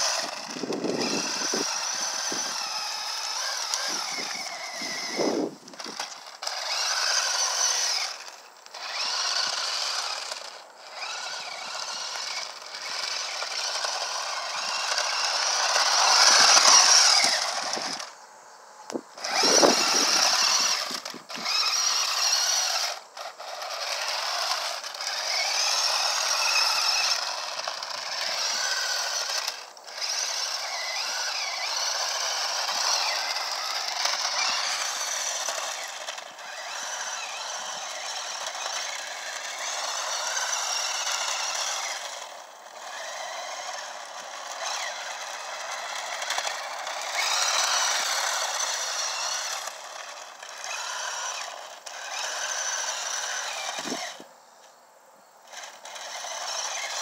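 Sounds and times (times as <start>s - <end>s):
toy car electric motor whining: 0.0s - 57.0s.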